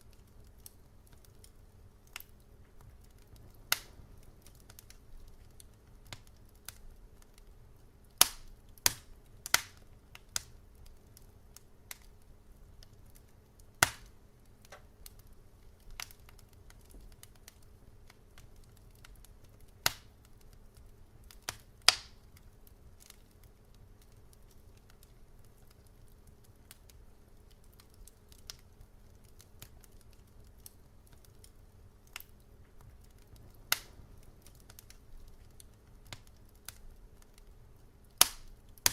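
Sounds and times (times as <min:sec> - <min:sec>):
low steady hum: 0:00.0 - 0:38.9
wood fire crackling and popping: 0:00.0 - 0:38.9.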